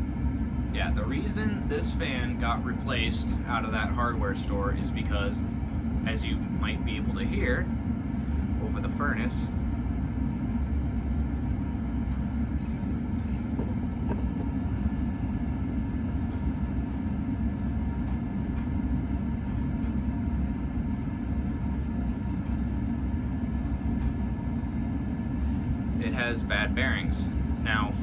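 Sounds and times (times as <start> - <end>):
ceiling fan squeaking: 0.0 - 28.0
furnace rumbling: 0.0 - 28.0.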